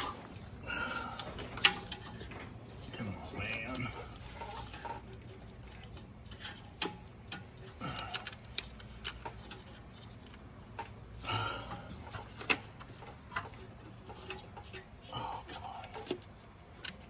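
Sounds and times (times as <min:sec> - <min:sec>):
hand tools and metal parts clicking: 0:00.0 - 0:17.0.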